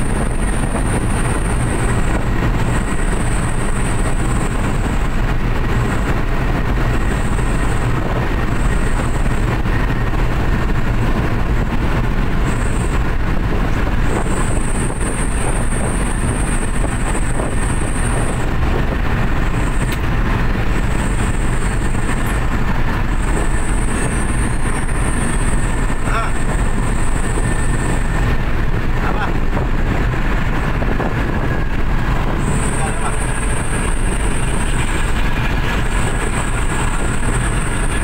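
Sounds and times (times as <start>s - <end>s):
pickup engine running hard: 0.0s - 38.0s
road and wind rumble: 0.0s - 38.0s.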